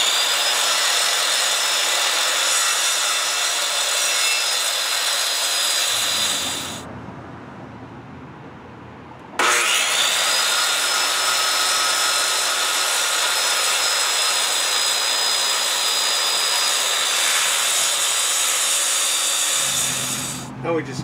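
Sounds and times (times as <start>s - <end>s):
circular saw cutting board: 0.0s - 6.8s, 9.4s - 20.5s.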